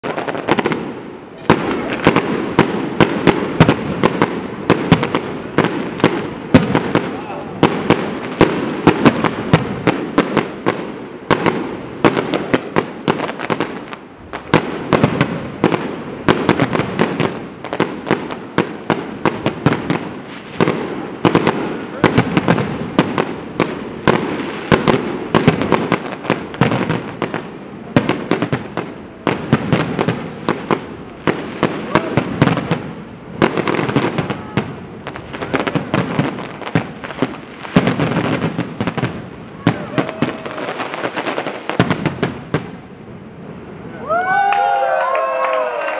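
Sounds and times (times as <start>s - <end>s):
fireworks bursting: 0.0s - 43.8s.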